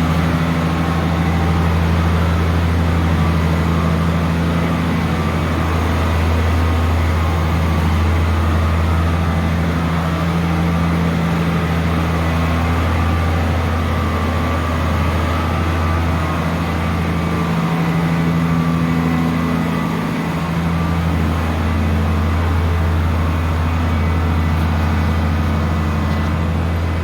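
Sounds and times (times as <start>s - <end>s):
heavy engine droning: 0.0s - 27.0s.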